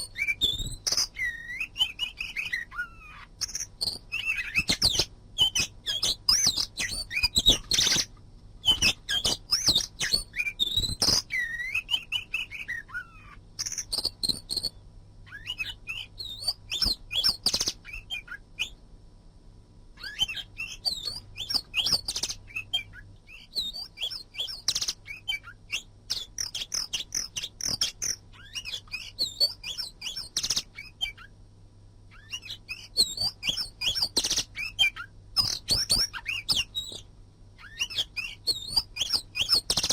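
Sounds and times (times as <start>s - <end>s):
bird singing: 0.0s - 18.8s, 20.0s - 31.4s, 32.1s - 39.9s.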